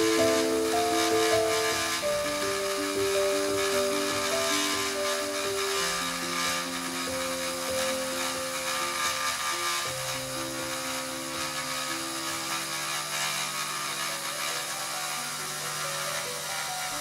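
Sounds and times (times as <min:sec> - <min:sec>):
milling spindle cutting hiss: 0:00.0 - 0:17.0
slow piano music: 0:00.0 - 0:17.0.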